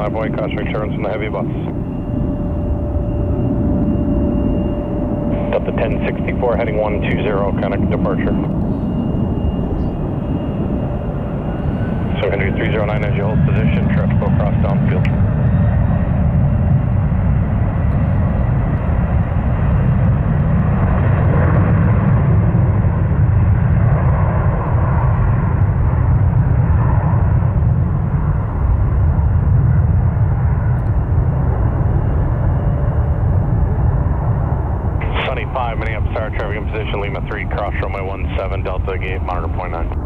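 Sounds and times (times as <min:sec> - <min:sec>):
jet engines at takeoff: 0:00.0 - 0:40.0.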